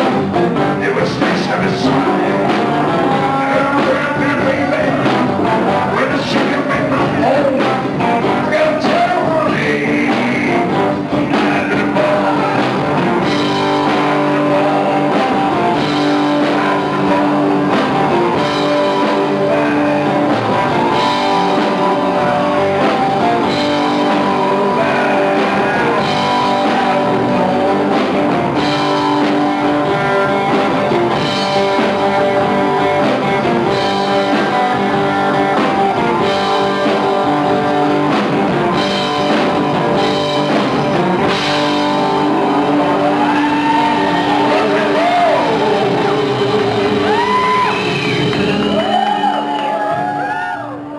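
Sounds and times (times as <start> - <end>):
distorted electric guitars: 0.0 - 50.9
drum kit: 0.0 - 50.9
lead singer: 0.0 - 50.9.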